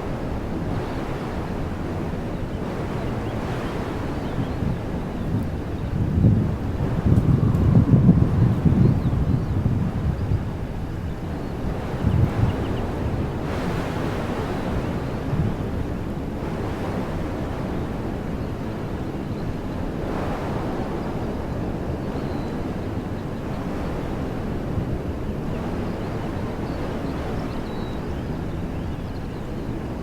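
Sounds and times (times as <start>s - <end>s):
wind rumble on microphone: 0.0s - 30.0s
wind rushing through trees: 0.0s - 30.0s.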